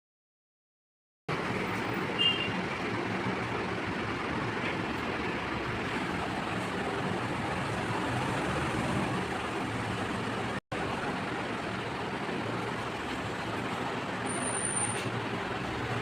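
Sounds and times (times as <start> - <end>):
road traffic: 1.3 - 16.0.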